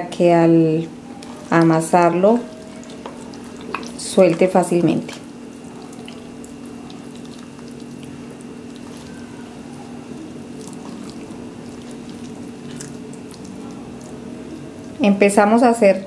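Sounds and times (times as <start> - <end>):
steady low hum: 0.0 - 16.0
hands squishing wet bread: 0.7 - 15.3.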